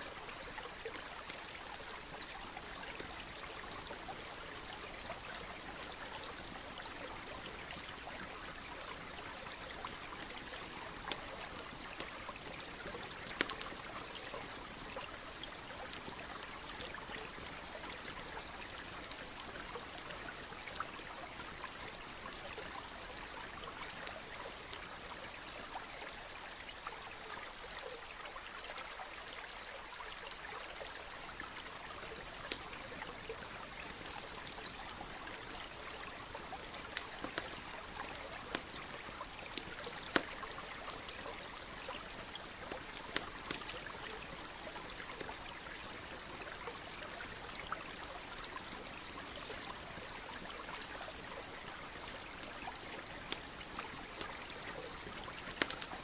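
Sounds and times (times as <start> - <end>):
campfire crackling: 0.0 - 28.0, 30.7 - 56.0
stream flowing: 0.0 - 56.0.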